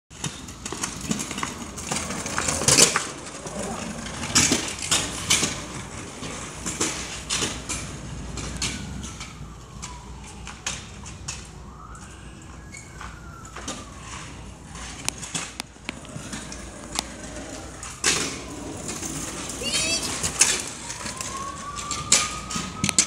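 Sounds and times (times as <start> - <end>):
scooter wheels rattling on concrete: 0.1 - 23.0.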